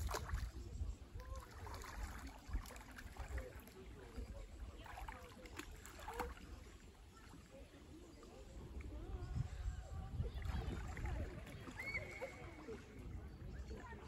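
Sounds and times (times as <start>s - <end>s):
faint distant voices: 0.0s - 14.0s
water lapping and splashing: 0.0s - 14.0s.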